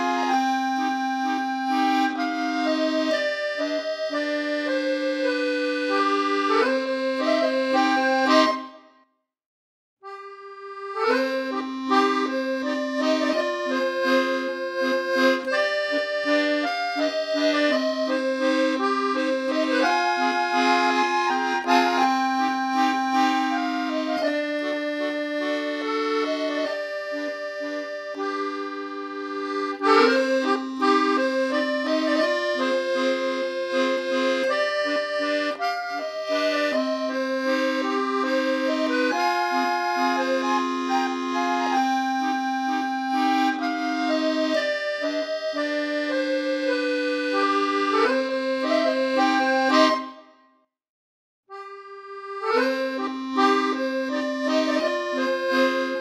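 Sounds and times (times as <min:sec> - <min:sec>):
accordion melody: 0:00.0 - 0:09.0, 0:10.0 - 0:50.6, 0:51.5 - 0:56.0.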